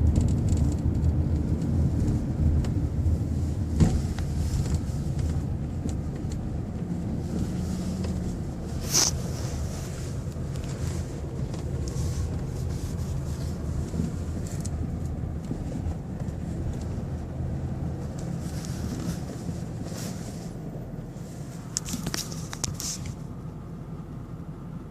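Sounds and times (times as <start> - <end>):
roof rattle clicks: 0.0 - 20.0
road and engine rumble in car: 0.0 - 24.9.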